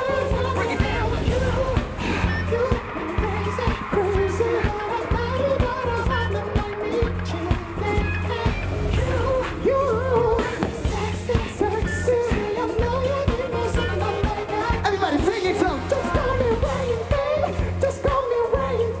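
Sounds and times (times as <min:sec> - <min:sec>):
pulsing bass beat: 0:00.0 - 0:17.9
wordless wavering vocals: 0:00.0 - 0:19.0.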